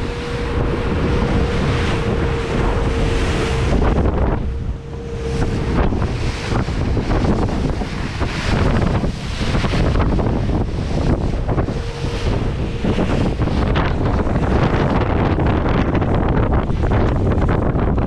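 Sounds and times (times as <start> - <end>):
steady hum: 0.0 - 18.0
water rushing along boat hull: 0.0 - 18.0
wind buffeting microphone: 0.0 - 18.0.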